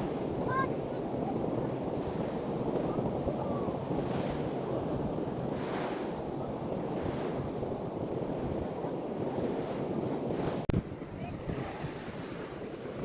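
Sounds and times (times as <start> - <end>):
surf washing onto shore: 0.0 - 13.0
wind buffeting microphone: 0.0 - 13.0.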